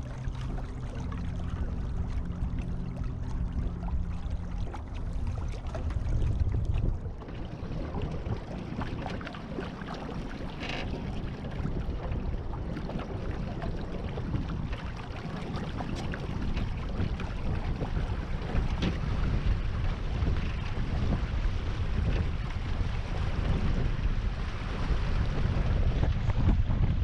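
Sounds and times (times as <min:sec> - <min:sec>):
water splashing against hull: 0:00.0 - 0:27.0
wind rumbling on microphone: 0:00.0 - 0:27.0.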